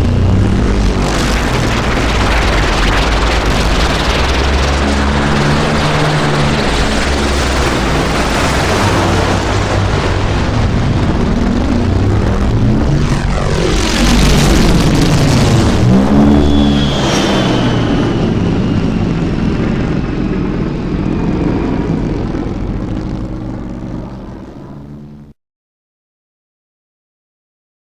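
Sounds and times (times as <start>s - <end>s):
aircraft roar: 0.0s - 25.4s
high whine: 0.0s - 25.4s.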